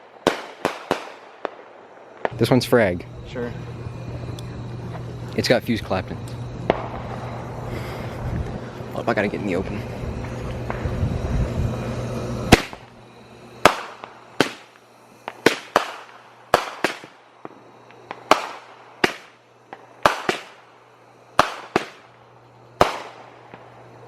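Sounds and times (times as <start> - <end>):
firework bangs: 0.0 - 24.0.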